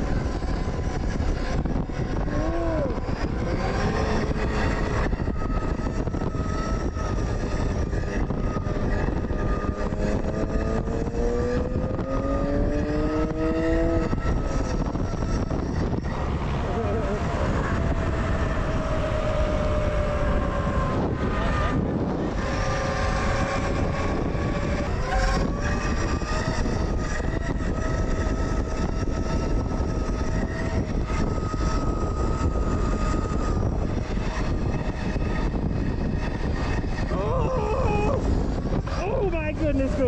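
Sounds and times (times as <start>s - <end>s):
electric motor whine: 0.0s - 40.0s
wind rumble on microphone: 0.0s - 40.0s.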